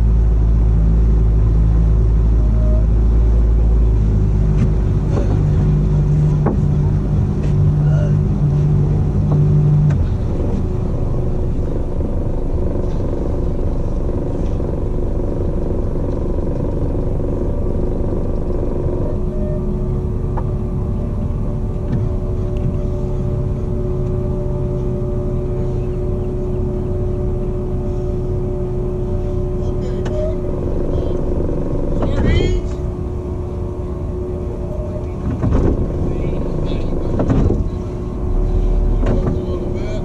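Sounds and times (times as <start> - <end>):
boat engine rumbling: 0.0 - 40.0.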